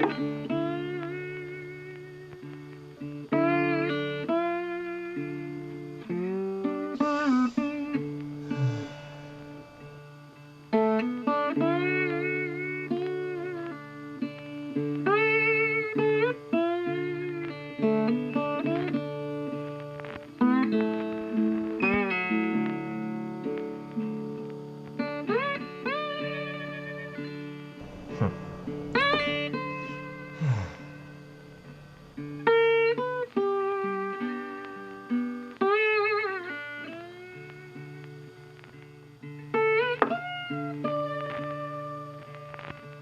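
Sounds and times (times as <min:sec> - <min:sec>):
plucked guitar melody: 0:00.0 - 0:43.0.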